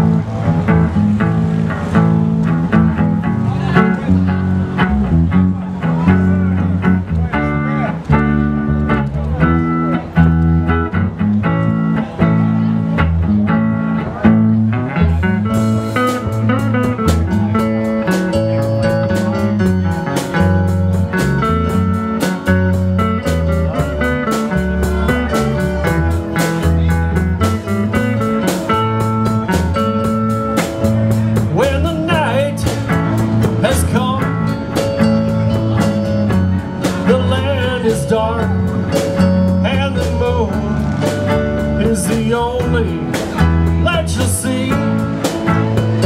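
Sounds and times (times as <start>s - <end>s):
bending lead guitar melody: 0.0s - 46.0s
blues band playing: 0.0s - 46.0s.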